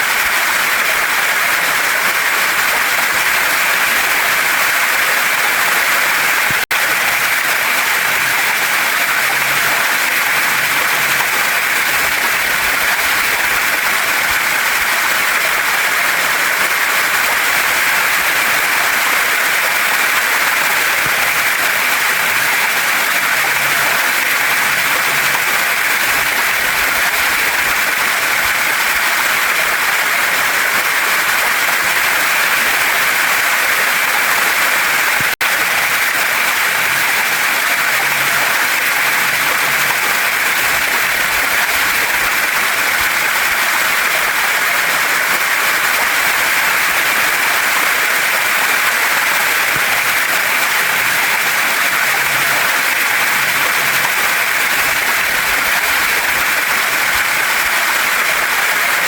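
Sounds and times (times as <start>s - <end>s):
stream flowing over rocks: 0.0s - 59.0s
waterfall rushing: 0.0s - 59.0s.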